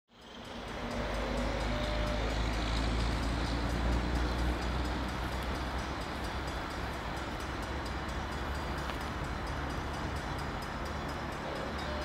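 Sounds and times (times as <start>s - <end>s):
diesel locomotive engine rumble: 0.1s - 12.0s.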